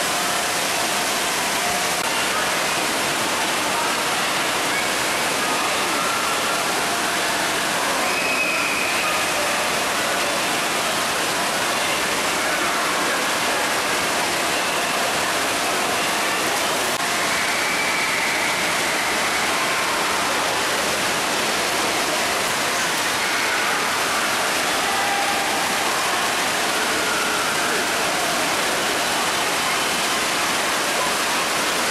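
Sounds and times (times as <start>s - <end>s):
water rushing and falling: 0.0s - 31.9s
distant voices and shouts: 1.6s - 31.9s.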